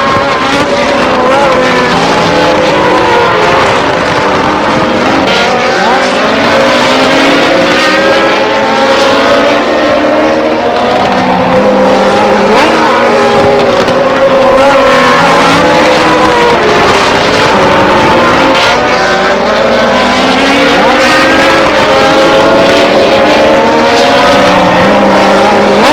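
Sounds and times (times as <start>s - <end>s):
racing car engines revving: 0.0s - 25.9s.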